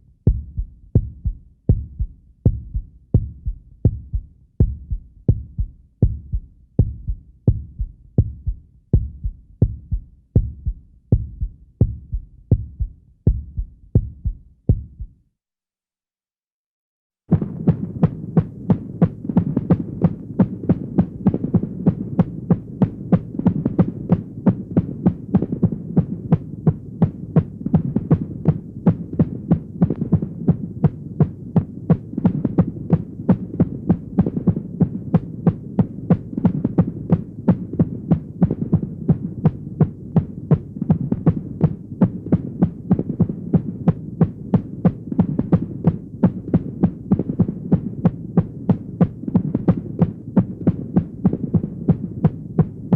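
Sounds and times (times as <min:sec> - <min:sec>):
heartbeat-like pulsing beats: 0:00.0 - 0:15.3, 0:17.3 - 0:52.9.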